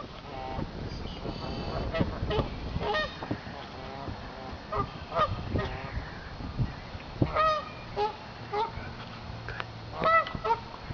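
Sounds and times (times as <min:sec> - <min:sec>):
geese honking: 0:00.0 - 0:06.4, 0:07.2 - 0:09.0, 0:09.9 - 0:10.8.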